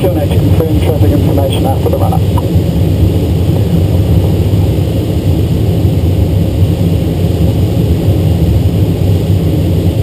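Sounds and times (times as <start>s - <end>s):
airflow rushing over glider: 0.0s - 10.0s.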